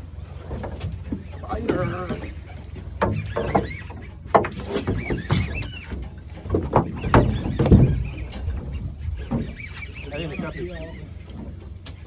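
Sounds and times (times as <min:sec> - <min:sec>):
boat engine rumble: 0:00.0 - 0:12.0
knocks and clacks from hull: 0:00.3 - 0:12.0.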